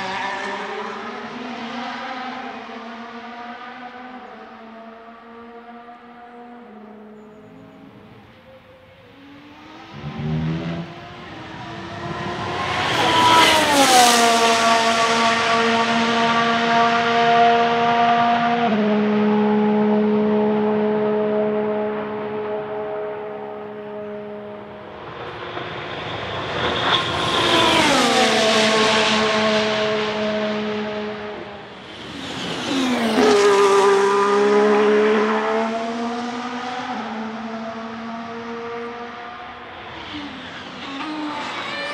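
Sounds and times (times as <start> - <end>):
racing car passing by: 0.0 - 41.9.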